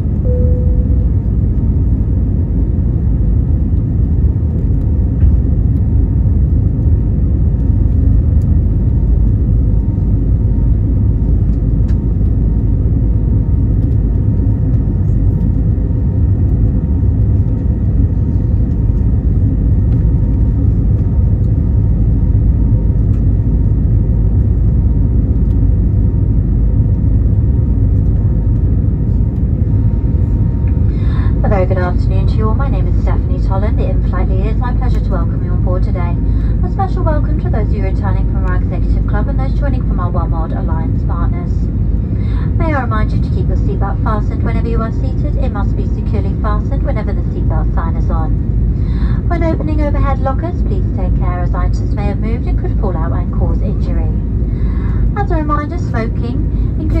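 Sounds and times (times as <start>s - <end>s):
airplane cabin engine rumble: 0.0s - 57.0s
faint steady engine whine: 0.0s - 57.0s.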